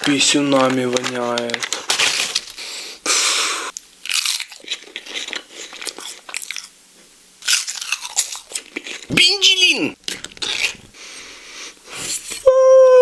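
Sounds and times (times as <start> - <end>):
crunching and chewing crisp food: 0.0 - 9.1, 10.0 - 12.4.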